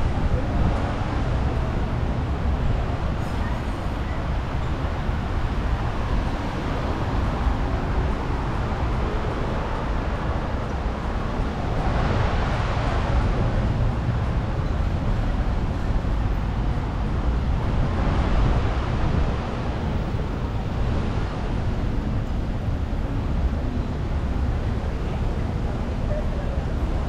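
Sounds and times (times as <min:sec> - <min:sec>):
street traffic noise: 0:00.0 - 0:27.0.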